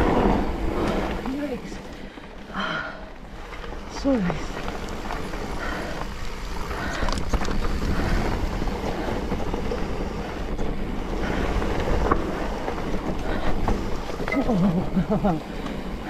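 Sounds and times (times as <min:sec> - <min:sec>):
bike tyres rolling on dirt: 0:00.0 - 0:16.0
wind buffeting microphone: 0:00.0 - 0:16.0.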